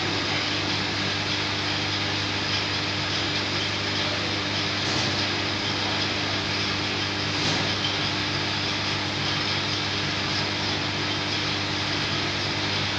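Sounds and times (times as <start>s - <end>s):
machine humming and hissing: 0.0s - 12.9s.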